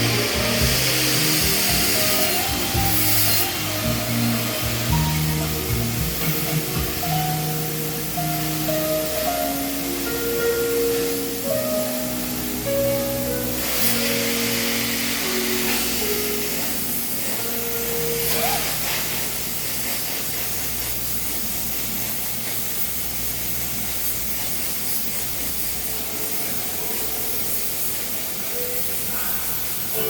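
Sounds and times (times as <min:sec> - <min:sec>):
gas torch flame hissing: 0:00.0 - 0:30.0.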